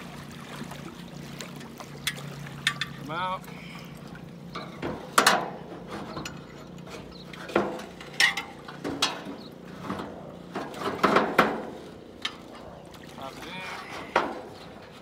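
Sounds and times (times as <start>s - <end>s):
metal poles clanking on dock frame: 1.5s - 3.5s, 4.4s - 15.0s.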